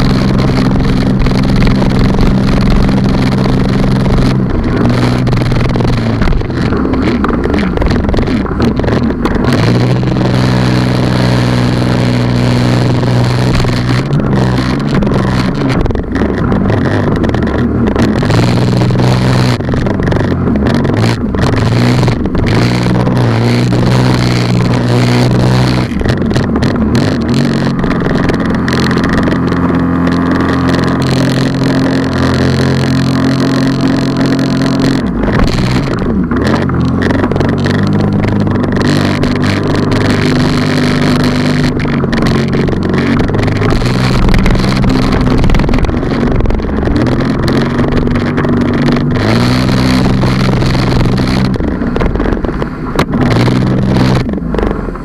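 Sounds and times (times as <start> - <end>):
water spray and wind rushing: 0.0 - 55.0
watercraft engine revving: 0.0 - 55.0.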